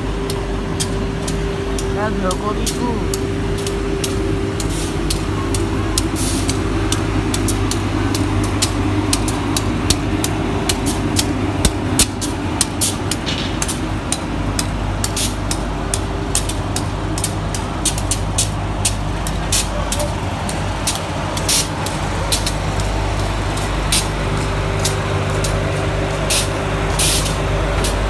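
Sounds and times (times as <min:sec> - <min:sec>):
train mechanical hum: 0:00.0 - 0:28.0.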